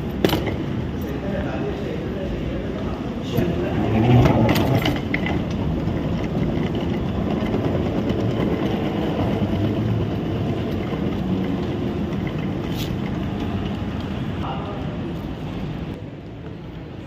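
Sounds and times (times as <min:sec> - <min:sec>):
moving walkway rumble and rattle: 0:00.0 - 0:17.0.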